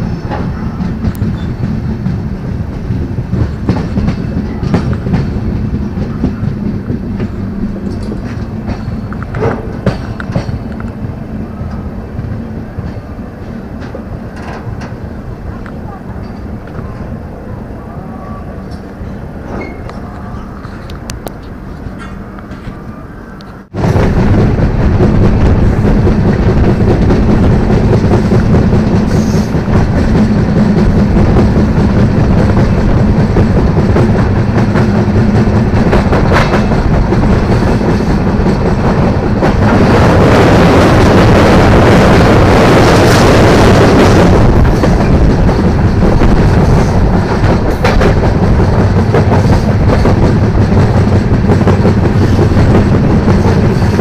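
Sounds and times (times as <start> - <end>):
clickety-clack over rail joints: 0.0 - 17.2, 18.6 - 54.0
train wheels rumbling on rails: 0.0 - 54.0.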